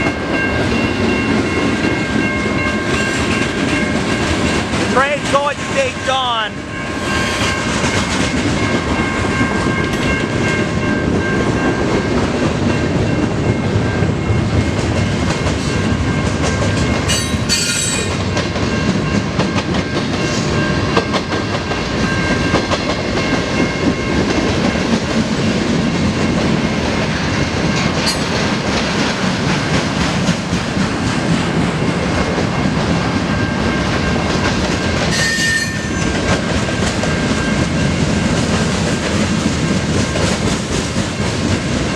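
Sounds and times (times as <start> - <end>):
clickety-clack of train wheels: 0.0 - 41.9
freight train rumbling: 0.0 - 41.9.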